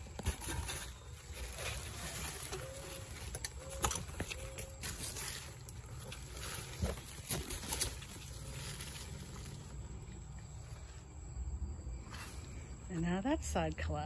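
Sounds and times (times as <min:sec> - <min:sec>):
foliage rustling: 0:00.0 - 0:12.9.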